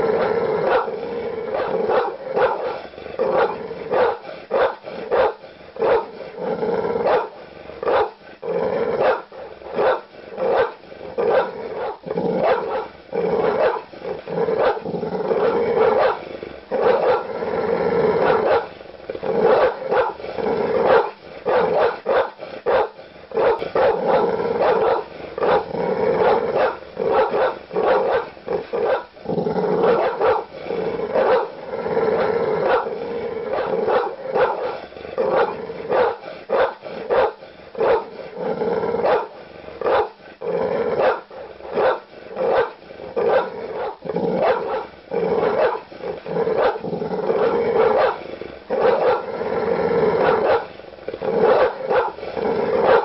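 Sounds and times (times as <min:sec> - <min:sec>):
large dog barking: 0:00.0 - 0:17.4, 0:18.0 - 0:31.6, 0:32.2 - 0:40.2, 0:40.8 - 0:49.4, 0:50.1 - 0:53.0.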